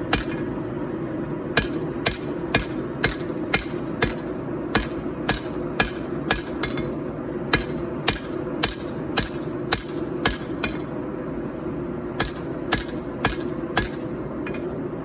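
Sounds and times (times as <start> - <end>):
hammer striking hot steel: 0.0 - 0.5, 1.6 - 11.0, 12.2 - 14.7.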